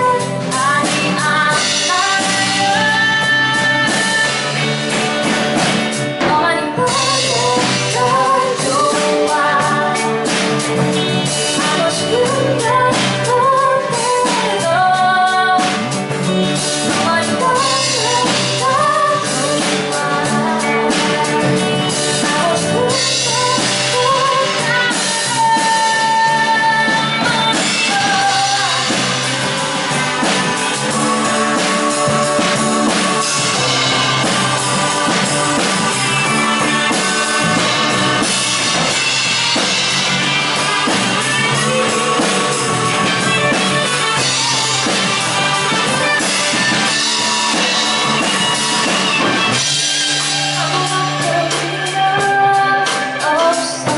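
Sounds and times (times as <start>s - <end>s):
person singing: 0.0s - 5.0s, 5.6s - 53.9s
live band playing: 0.0s - 53.9s.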